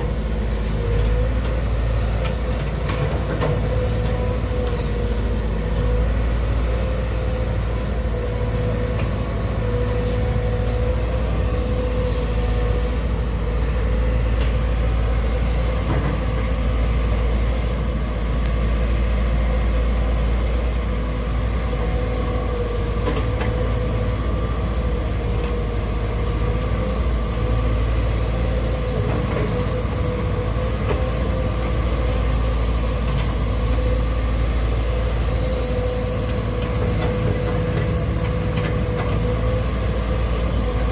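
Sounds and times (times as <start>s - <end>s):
large machine humming: 0.0s - 40.9s.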